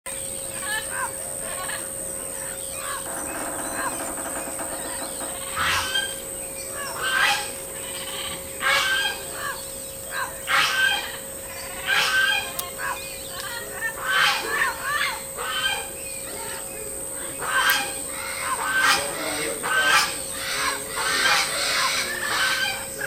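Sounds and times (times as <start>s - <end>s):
harsh bird calls: 0.1s - 23.0s
low hum: 0.1s - 23.0s
steady high-pitched tone: 0.1s - 23.0s.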